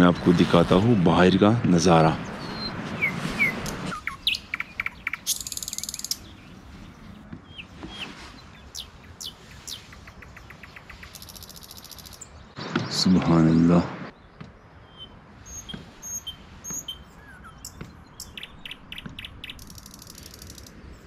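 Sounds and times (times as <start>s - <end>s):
birds chirping and calling: 0.0s - 21.0s.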